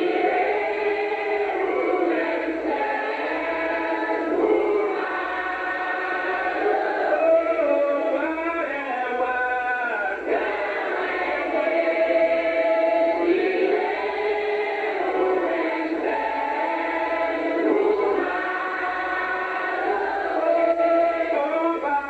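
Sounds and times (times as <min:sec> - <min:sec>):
choir singing long notes: 0:00.0 - 0:22.0.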